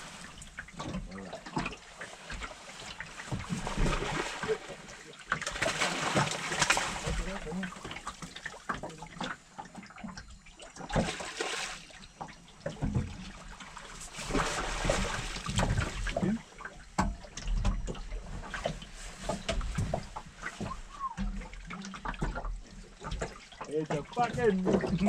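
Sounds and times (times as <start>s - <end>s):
water sloshing around boat: 0.0s - 25.0s.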